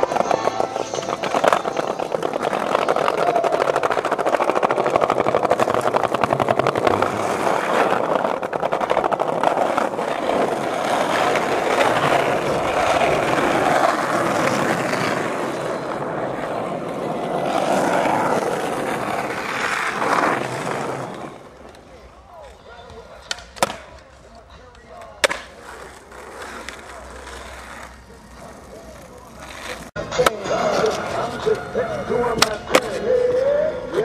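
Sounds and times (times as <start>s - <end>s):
skateboard wheels rolling on asphalt: 0.0s - 34.0s.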